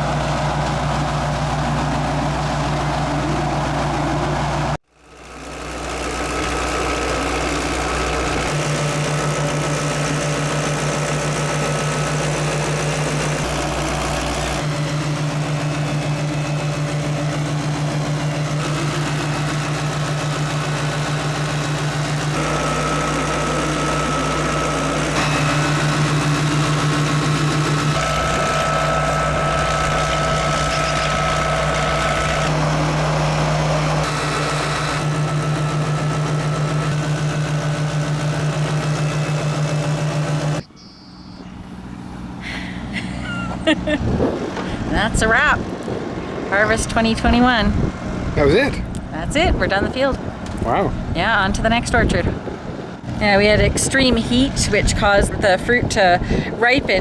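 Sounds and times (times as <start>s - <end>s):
farm machinery engine humming: 0.0s - 57.0s.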